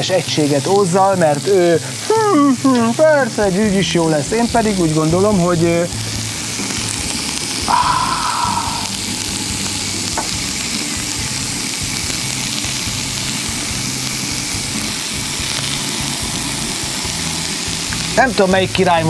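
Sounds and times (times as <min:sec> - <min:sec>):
prawns sizzling on a grill: 0:00.0 - 0:19.0.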